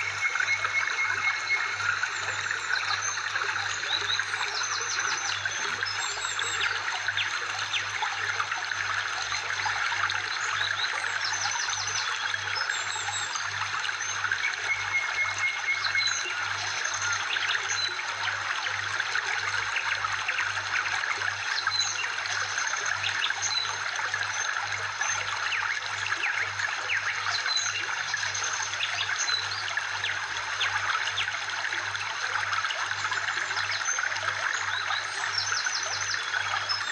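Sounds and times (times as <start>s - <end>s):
trickling water: 0.0s - 36.9s.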